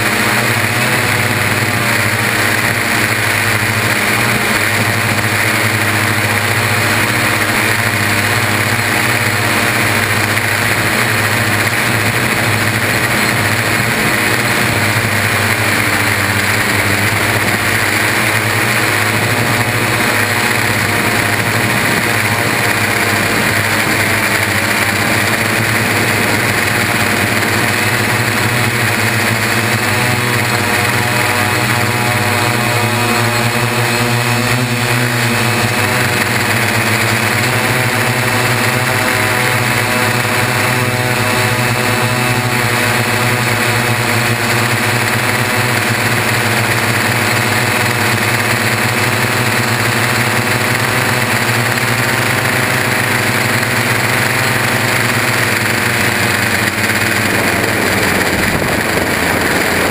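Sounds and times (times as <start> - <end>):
drone motors whirring: 0.0 - 59.9.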